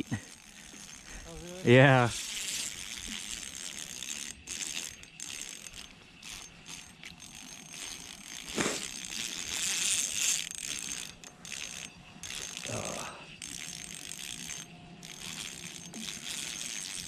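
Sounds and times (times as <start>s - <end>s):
fishing reel ratcheting whir: 0.0s - 17.0s.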